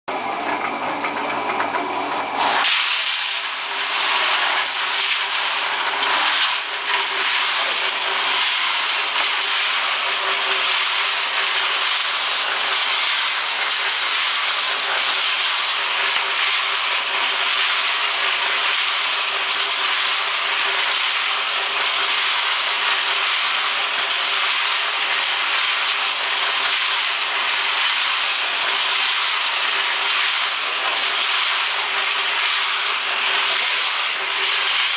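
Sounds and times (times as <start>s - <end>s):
concrete mixer humming: 0.1s - 34.9s
gravel rattling in mixer drum: 0.3s - 34.9s.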